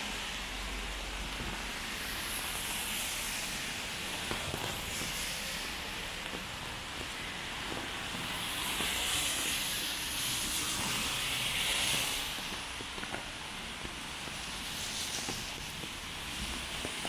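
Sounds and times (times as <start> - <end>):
rain hissing on wet street: 0.0 - 17.0.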